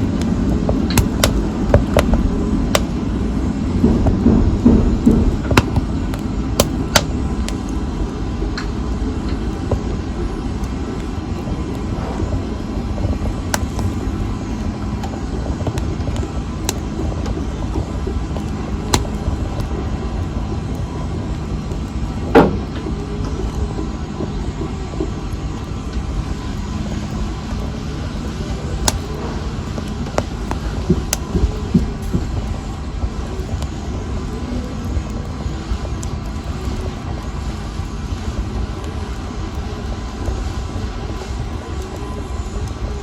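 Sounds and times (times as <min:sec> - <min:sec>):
fire crackling and popping: 0:00.0 - 0:43.0
fire rumbling in fireplace: 0:00.0 - 0:43.0.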